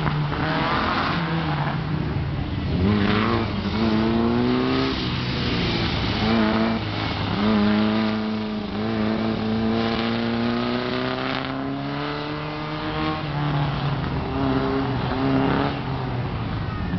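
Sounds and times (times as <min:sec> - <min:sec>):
race car engine revving: 0:00.0 - 0:01.9, 0:02.6 - 0:15.9.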